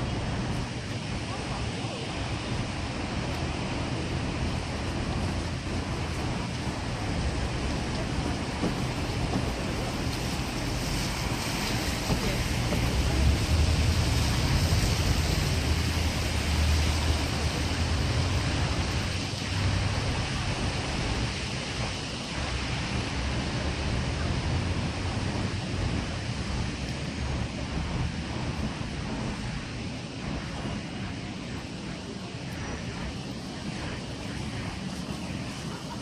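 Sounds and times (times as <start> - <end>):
low city rumble: 0.0 - 36.0
wind buffeting microphone: 0.0 - 36.0.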